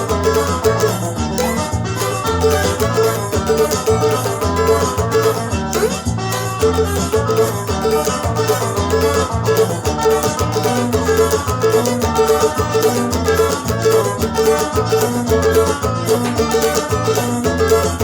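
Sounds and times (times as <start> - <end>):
cavaquinho strumming: 0.0 - 18.0
electric guitar instrumental music: 0.0 - 18.0
steady bass beat: 0.0 - 18.0.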